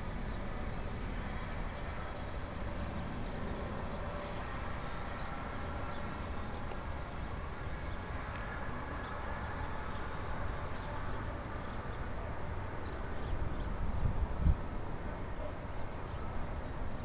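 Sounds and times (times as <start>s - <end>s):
turboprop engine whine: 0.0s - 17.0s
wind buffeting microphone: 0.0s - 17.0s.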